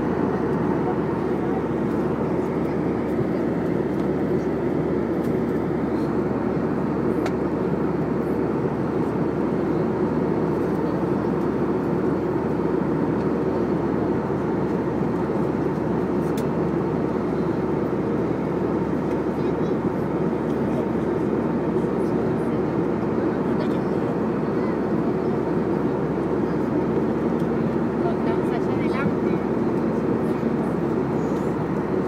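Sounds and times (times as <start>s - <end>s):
jet airliner cabin noise: 0.0s - 32.0s.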